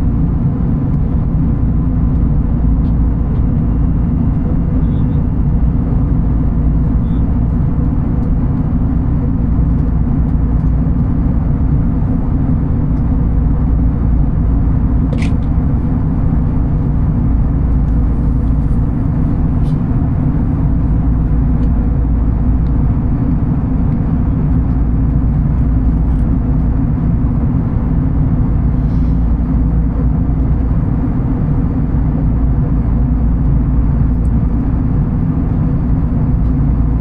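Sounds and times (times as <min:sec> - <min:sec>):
vehicle rumbling in motion: 0:00.0 - 0:37.0.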